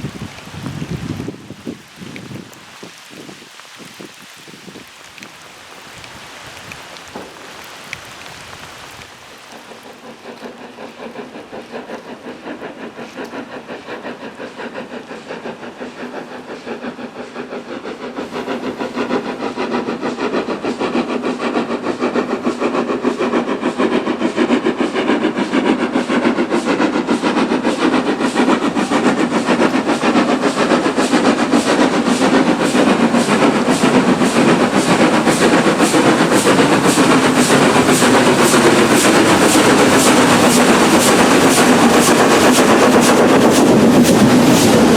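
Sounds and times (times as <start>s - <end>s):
steam locomotive exhaust chuffs: 4.5s - 44.9s.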